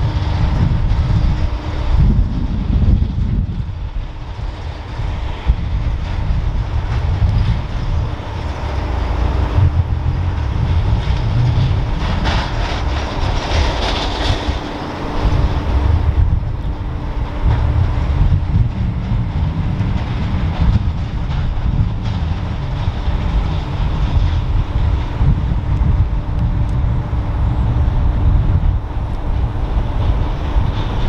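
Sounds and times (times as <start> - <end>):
tow tractor engine rumble: 0.0 - 31.0
wind buffeting microphone: 0.0 - 31.0.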